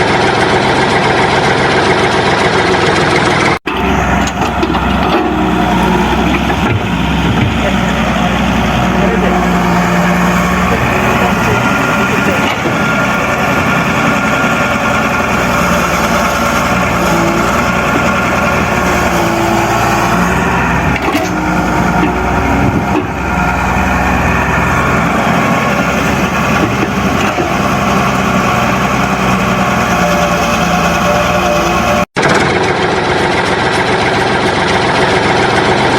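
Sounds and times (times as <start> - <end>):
engine running steadily: 0.0 - 35.9.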